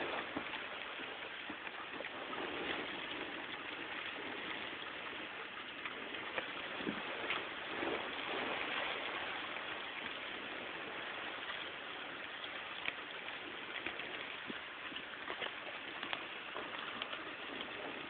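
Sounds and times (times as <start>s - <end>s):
raindrops ticking close by: 0.0s - 18.0s.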